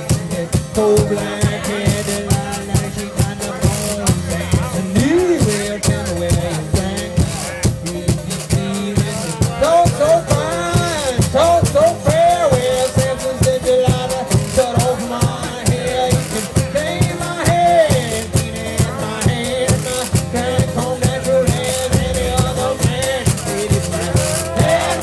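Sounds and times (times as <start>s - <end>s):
fingerpicked acoustic guitar: 0.0s - 25.0s.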